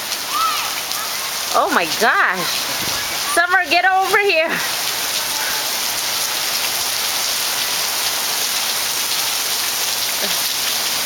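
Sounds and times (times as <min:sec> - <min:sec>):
rain on hard ground: 0:00.0 - 0:11.0.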